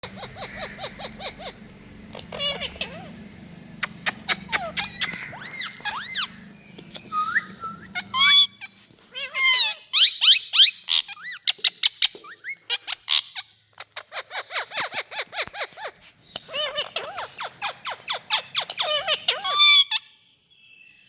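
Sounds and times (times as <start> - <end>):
parrots whistling and squawking: 0.0 - 20.2.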